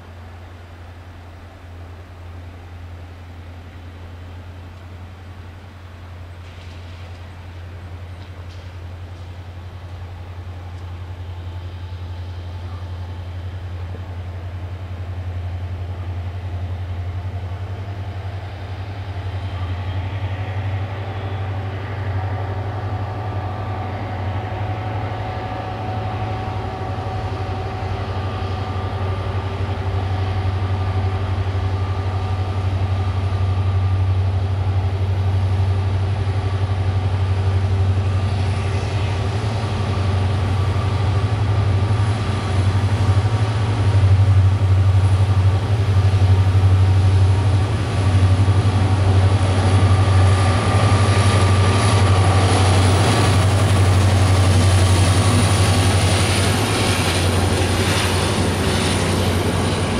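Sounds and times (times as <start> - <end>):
diesel locomotive engine working hard: 0.0 - 59.9.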